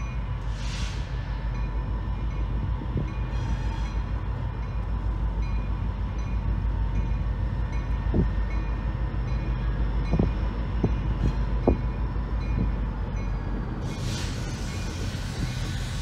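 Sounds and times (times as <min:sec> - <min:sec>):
locomotive rumbling past: 0:00.0 - 0:16.0.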